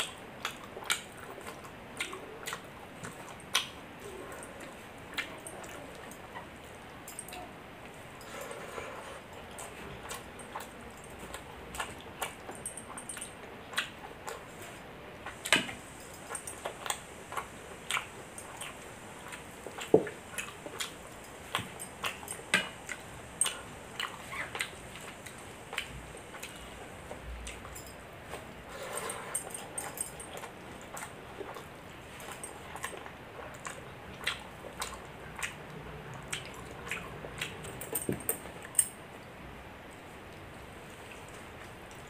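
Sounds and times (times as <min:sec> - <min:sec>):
wet chewing and lip smacking: 0:00.0 - 0:08.0, 0:09.2 - 0:28.6, 0:29.4 - 0:39.3.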